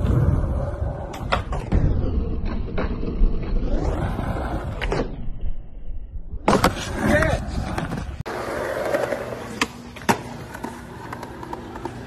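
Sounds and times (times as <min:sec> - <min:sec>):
skateboard wheels rolling: 0:00.0 - 0:05.5, 0:06.4 - 0:12.0.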